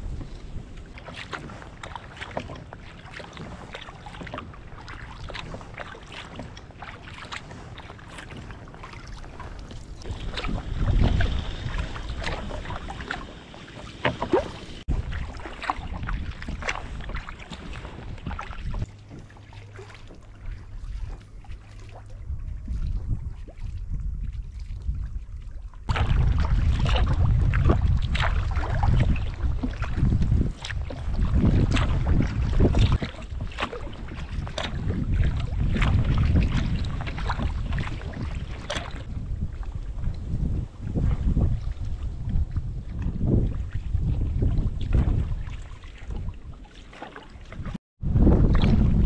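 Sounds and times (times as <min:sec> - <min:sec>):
paddle strokes splashing in water: 0:00.0 - 0:49.0
wind rumble on microphone: 0:00.0 - 0:49.0.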